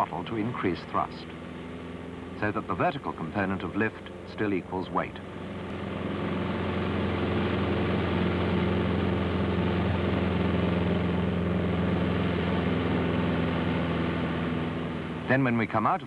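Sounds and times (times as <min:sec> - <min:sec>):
light aircraft engine droning: 0:00.0 - 0:16.0.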